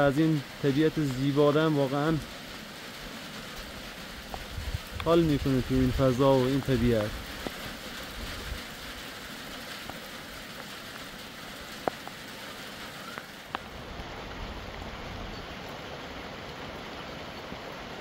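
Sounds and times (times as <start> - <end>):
steady rainfall hiss: 0.0 - 18.0.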